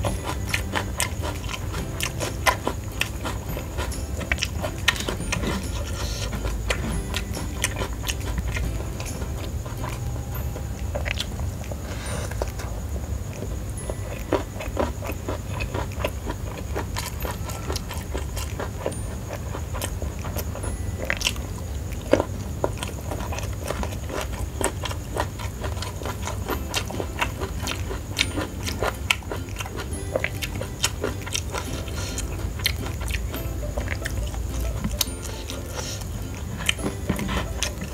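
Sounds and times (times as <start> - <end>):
person chewing with wet mouth sounds: 0.0 - 37.9.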